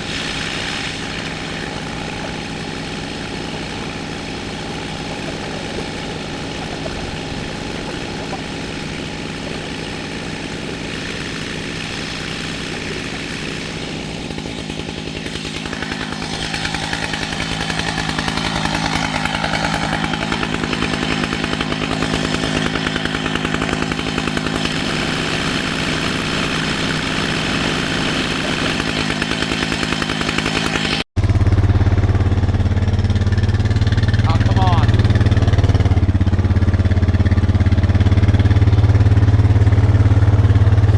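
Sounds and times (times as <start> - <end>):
chainsaw milling log: 0.0 - 40.9
low engine sound: 0.0 - 40.9.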